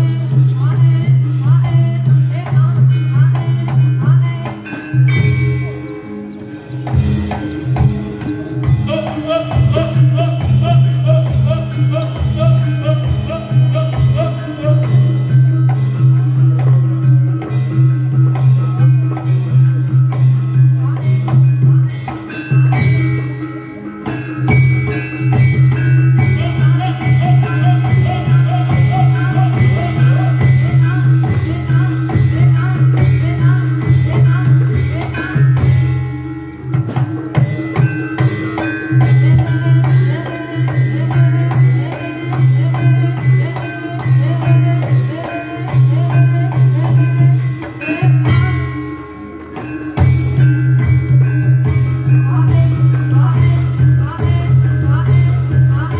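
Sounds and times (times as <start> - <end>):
drums: 0.0 - 55.9
tuned metal percussion: 0.0 - 55.9.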